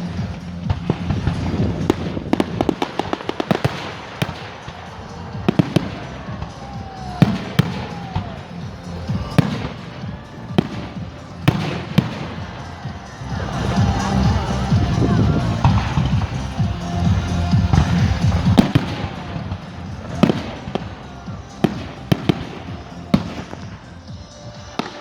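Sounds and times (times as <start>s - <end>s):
fireworks exploding: 0.0s - 25.0s
music: 0.0s - 25.0s.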